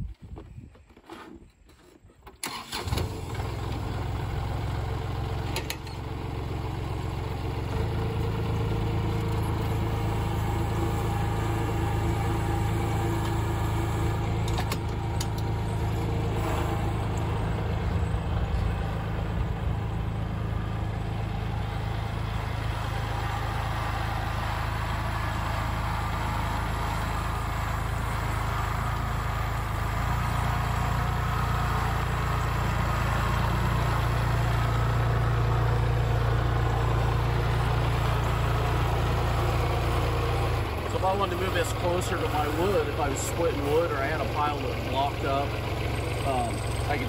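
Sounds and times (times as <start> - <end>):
tractor diesel engine running: 2.3 - 47.0.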